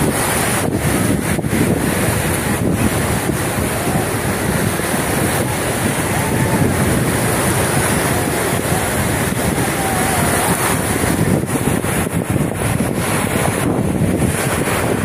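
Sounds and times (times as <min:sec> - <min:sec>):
waves breaking on shore: 0:00.0 - 0:15.0
wind buffeting microphone: 0:00.0 - 0:15.0.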